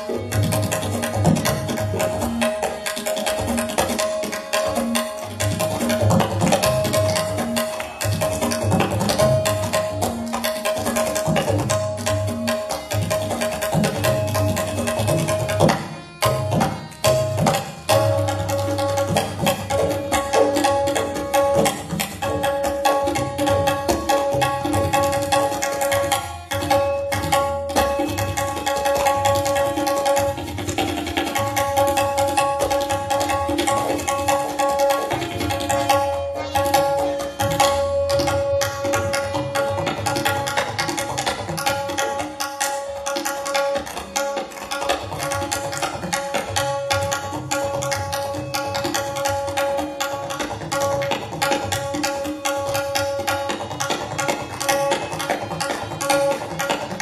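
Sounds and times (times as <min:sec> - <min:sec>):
tabla drumming: 0:00.0 - 0:57.0.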